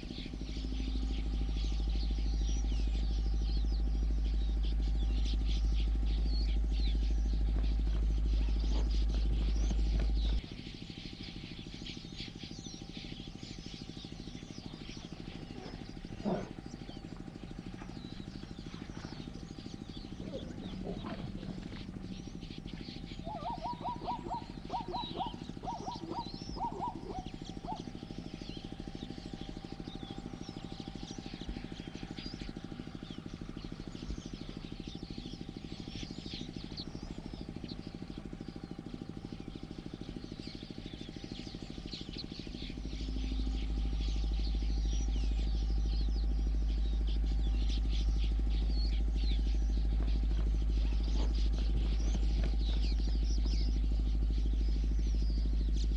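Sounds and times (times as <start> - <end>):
small birds chirping: 0.0 - 55.9
steady low rumble: 0.0 - 55.9.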